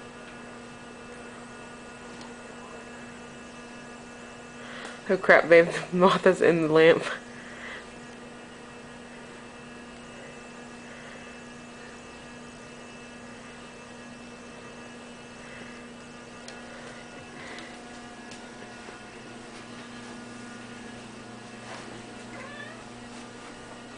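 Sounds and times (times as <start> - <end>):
electrical mains hum: 0.0 - 23.9.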